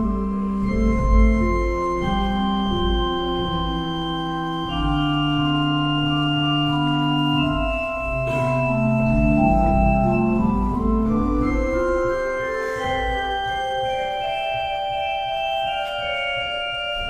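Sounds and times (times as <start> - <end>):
pipe organ playing: 0.0 - 17.0.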